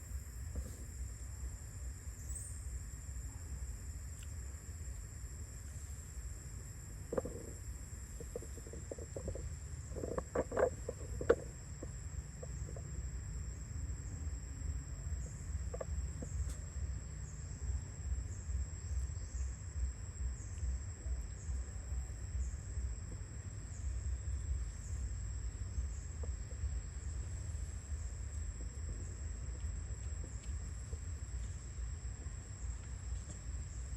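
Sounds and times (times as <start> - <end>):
crickets droning: 0.0 - 33.9.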